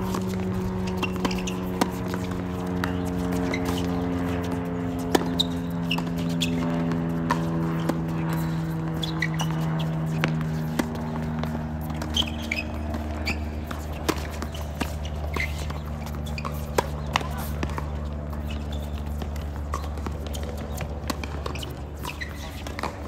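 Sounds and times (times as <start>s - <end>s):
players' footsteps: 0.0s - 23.0s
steady low hum: 0.0s - 23.0s
tennis ball bouncing on hard court: 0.0s - 23.0s.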